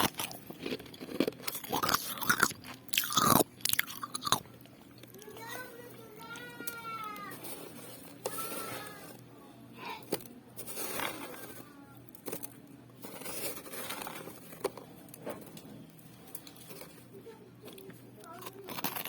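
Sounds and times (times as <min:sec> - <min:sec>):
ice being crunched and chewed: 0:00.0 - 0:09.2, 0:10.1 - 0:19.0.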